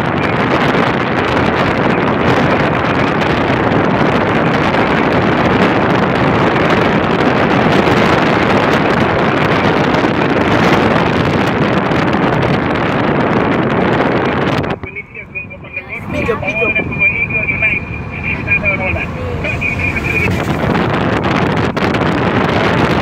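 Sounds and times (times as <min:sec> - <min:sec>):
wind and road noise in car: 0:00.0 - 0:23.0
wind blowing on microphone: 0:00.0 - 0:23.0.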